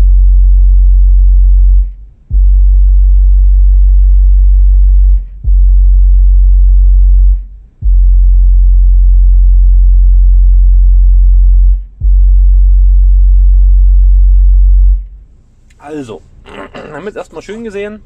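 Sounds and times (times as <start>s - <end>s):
deep sine test tone: 0.0s - 15.3s.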